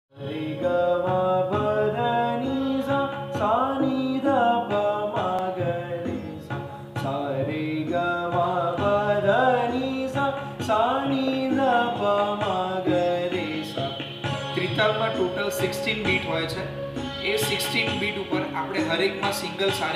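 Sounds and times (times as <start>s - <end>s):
man singing classical melody: 0.1s - 19.9s.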